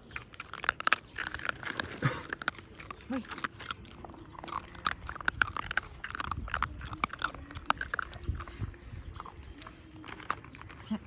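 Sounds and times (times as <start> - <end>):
puppies crunching dry biscuits: 0.0 - 11.0.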